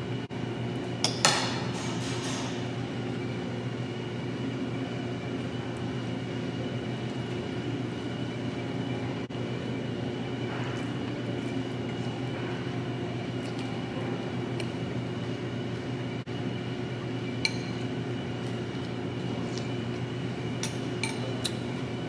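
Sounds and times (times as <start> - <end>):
restaurant dining room hum: 0.0 - 22.0.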